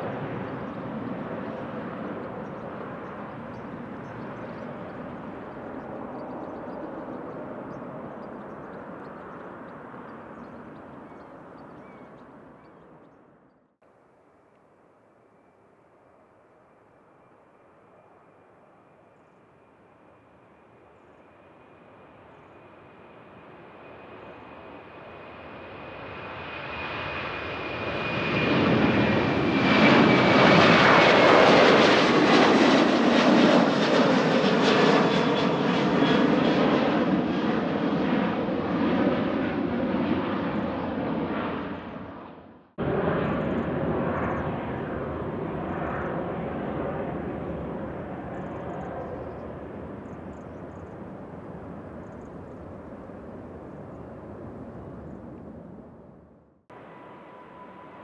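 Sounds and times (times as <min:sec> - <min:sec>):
jet airliner engines passing: 0:00.0 - 0:13.4, 0:15.8 - 0:58.0.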